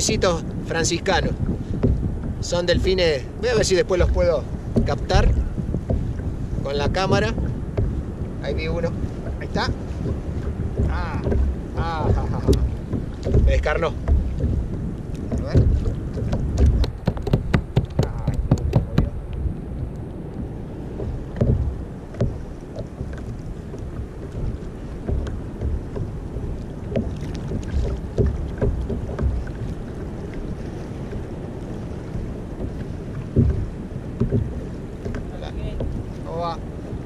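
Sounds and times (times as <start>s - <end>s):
water lapping against kayak: 0.0s - 37.0s
wind buffeting microphone: 0.0s - 37.0s
dull knocks: 0.8s - 19.2s, 20.4s - 36.7s.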